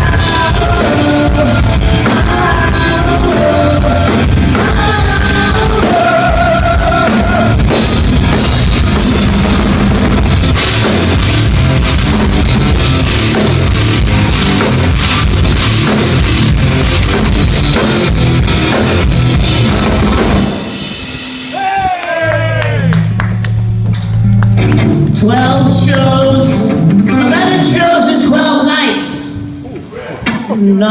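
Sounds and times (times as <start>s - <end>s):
rock band playing loudly: 0.0s - 30.4s.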